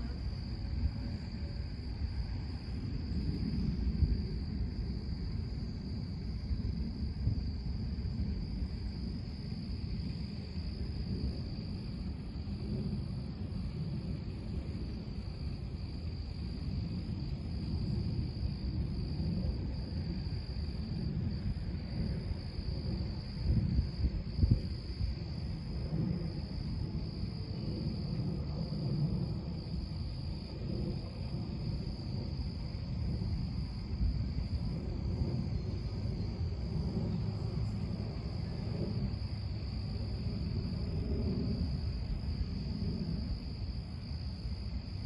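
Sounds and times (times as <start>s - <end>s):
distant thunder rumbling: 0.0s - 45.0s
night insects chirring: 0.0s - 45.0s.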